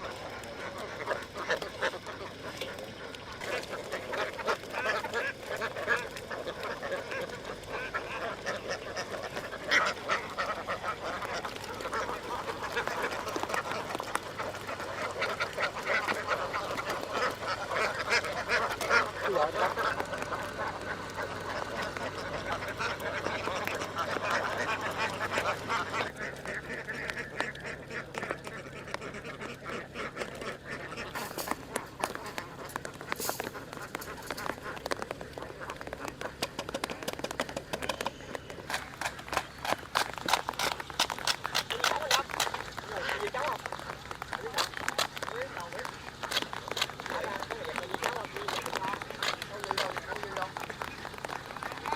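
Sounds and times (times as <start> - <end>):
ducks quacking: 0.0 - 51.9.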